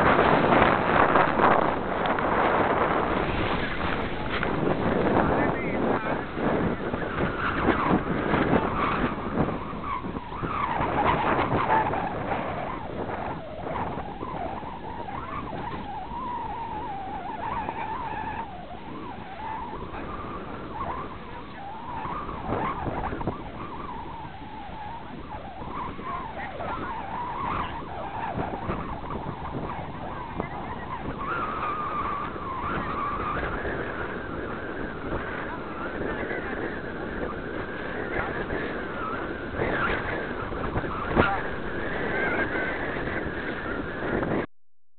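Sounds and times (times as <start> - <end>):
gusty wind buffeting microphone: 0.0 - 44.5.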